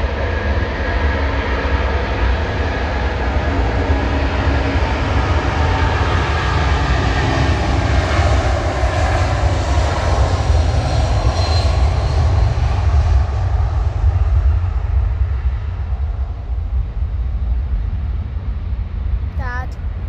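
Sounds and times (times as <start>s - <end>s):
jet engines at takeoff power: 0.0s - 20.0s.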